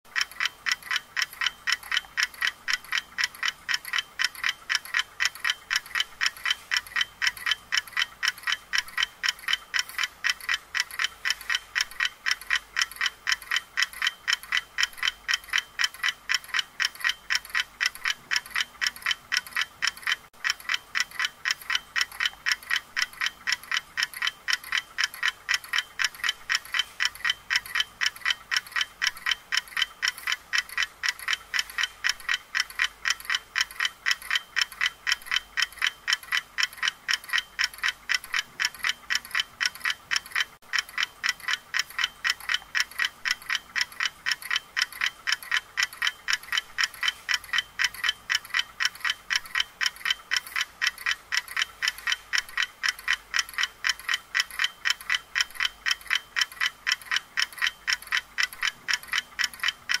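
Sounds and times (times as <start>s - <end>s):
clock ticking: 0.1s - 60.0s.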